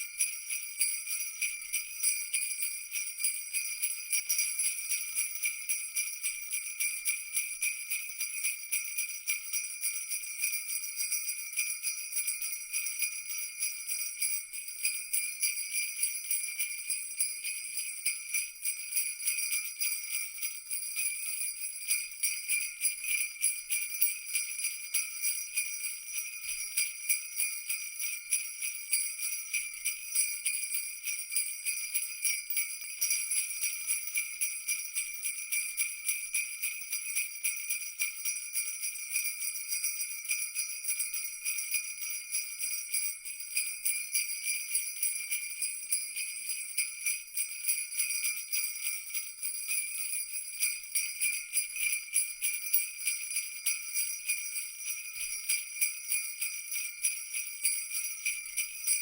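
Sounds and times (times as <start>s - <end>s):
jingle bells shaken: 0.0s - 59.0s.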